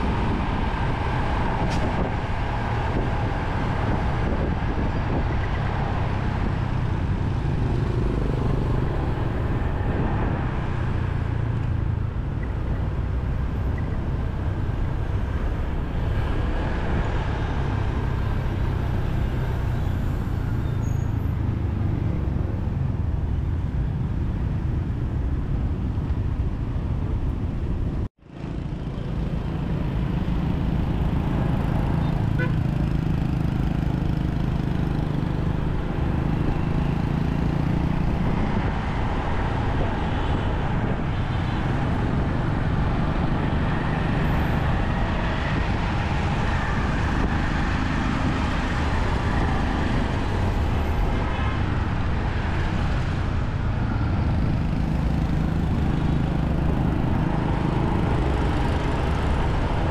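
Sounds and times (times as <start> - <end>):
passing traffic: 0.0 - 59.9.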